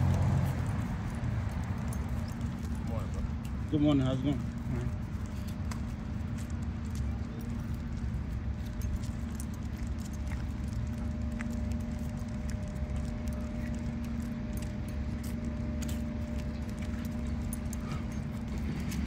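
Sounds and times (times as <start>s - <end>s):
leash hardware jingling: 0.0s - 19.0s
steady low hum: 0.0s - 19.0s.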